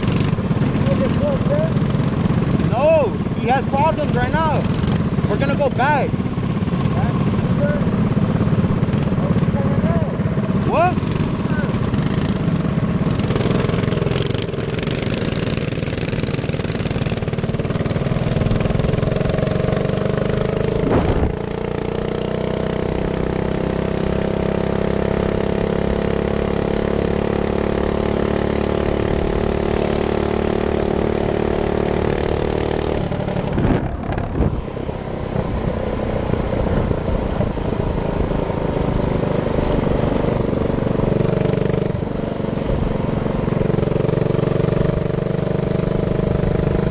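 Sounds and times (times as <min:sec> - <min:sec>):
minibike engine running: 0:00.0 - 0:46.9.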